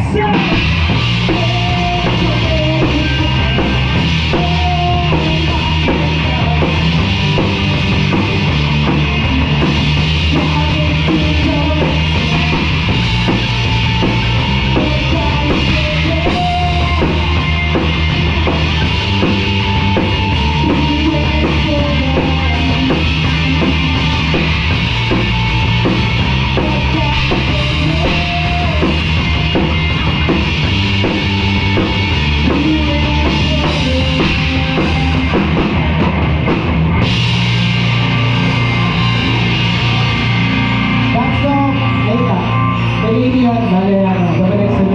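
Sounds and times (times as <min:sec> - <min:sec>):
drum kit: 0:00.0 - 0:44.9
live rock band playing: 0:00.0 - 0:44.9.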